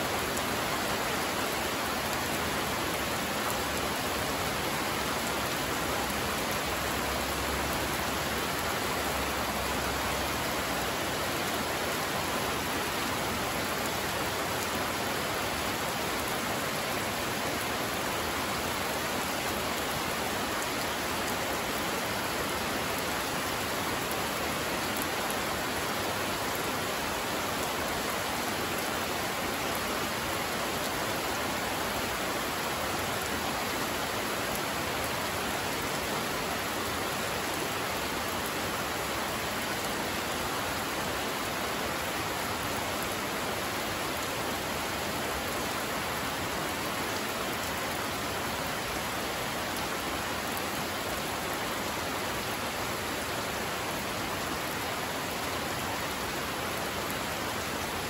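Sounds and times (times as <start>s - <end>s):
rain on leafy vegetation: 0.0s - 58.0s.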